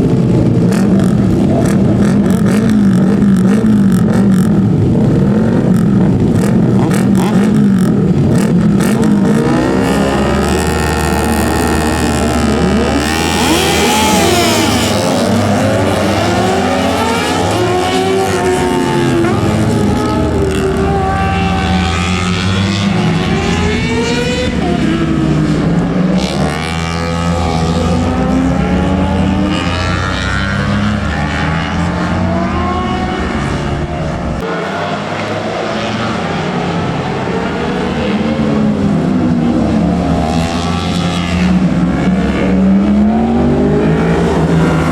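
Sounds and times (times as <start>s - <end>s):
motorbike accelerating: 0.0s - 44.9s
motorbike engines racing: 0.0s - 44.9s.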